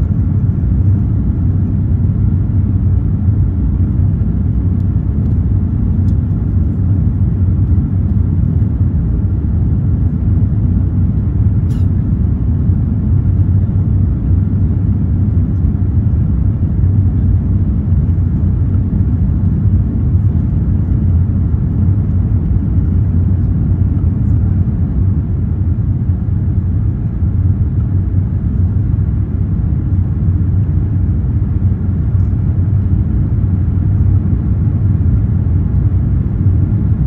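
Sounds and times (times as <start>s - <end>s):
jet engine roar in cabin: 0.0s - 37.0s.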